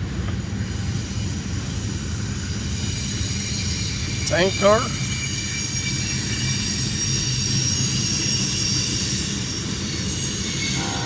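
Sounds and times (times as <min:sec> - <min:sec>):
steel wheels rumbling on rail: 0:00.0 - 0:11.0
high wheel squealing: 0:00.3 - 0:11.0.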